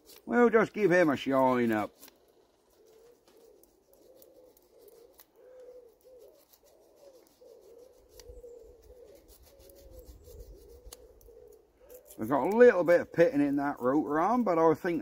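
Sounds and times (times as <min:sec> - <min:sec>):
pigeon cooing: 0:02.5 - 0:15.0.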